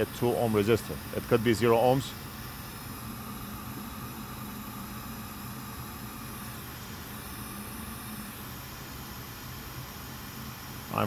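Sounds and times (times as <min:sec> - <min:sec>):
fans whirring: 0:00.0 - 0:11.0
low hum: 0:00.6 - 0:10.4.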